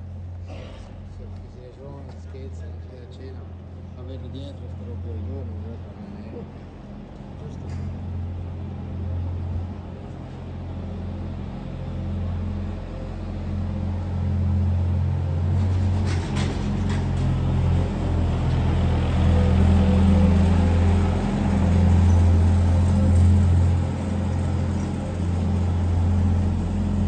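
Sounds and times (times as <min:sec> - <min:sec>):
utility vehicle engine humming: 0:00.0 - 0:27.0.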